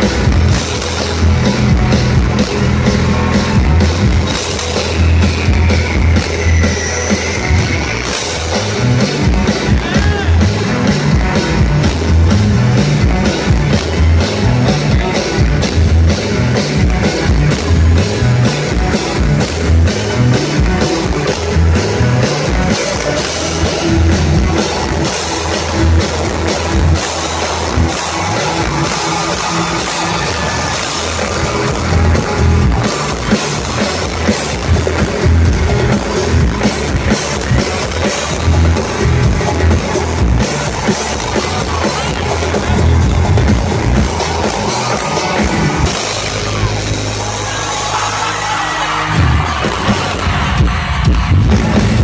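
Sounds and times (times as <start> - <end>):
live band amplified music: 0.0 - 52.0
moving bass line: 0.0 - 52.0
steady drum beat: 0.0 - 52.0.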